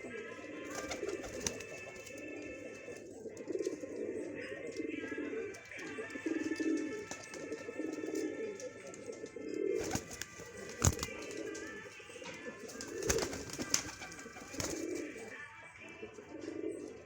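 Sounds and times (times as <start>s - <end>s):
pigeon cooing: 0.0s - 17.0s.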